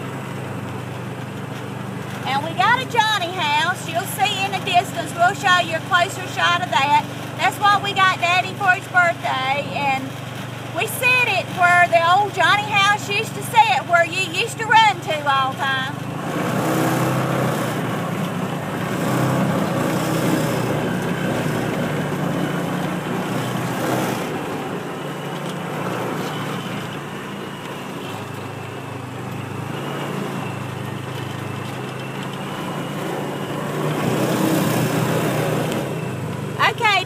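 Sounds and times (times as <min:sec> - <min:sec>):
small utility vehicle engine running: 0:00.0 - 0:37.0.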